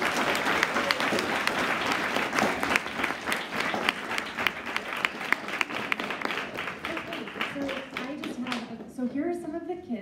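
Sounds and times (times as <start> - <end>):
children applauding: 0.0 - 8.8.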